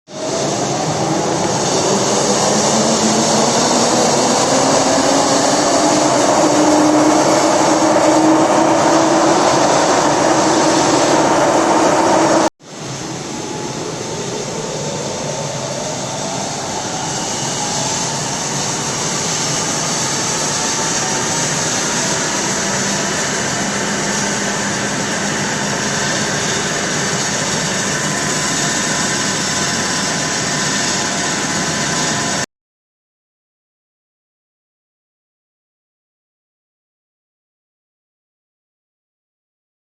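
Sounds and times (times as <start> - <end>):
lathe running with whine: 0.1 - 32.4.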